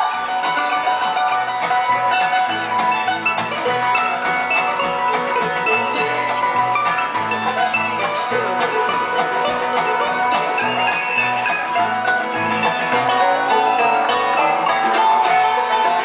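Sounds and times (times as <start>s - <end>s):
acoustic guitar: 0.0s - 16.0s
banjo picking: 0.0s - 16.0s
mandolin: 0.0s - 16.0s
walking bass line: 0.0s - 16.0s.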